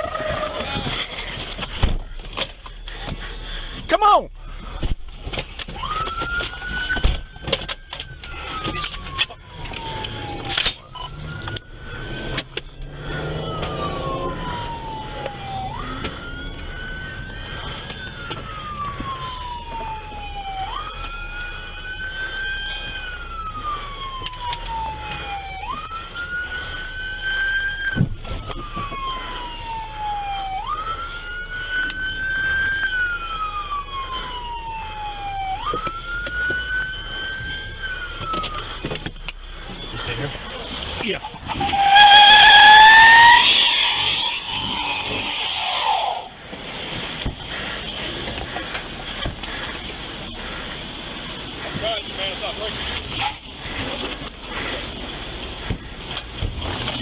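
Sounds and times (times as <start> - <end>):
fainter higher siren: 0.0 - 1.8, 5.5 - 57.0
low vehicle rumble: 0.0 - 57.0
police siren wailing: 0.0 - 57.0.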